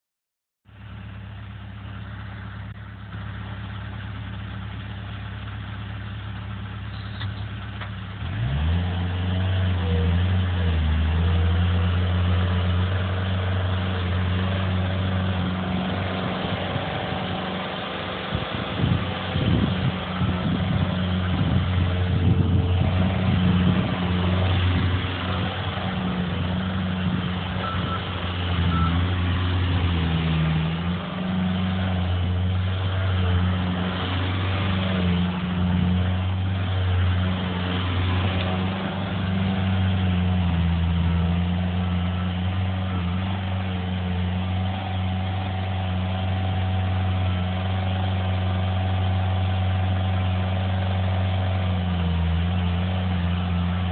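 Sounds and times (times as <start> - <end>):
heavy machine diesel engine: 0.7 - 53.9.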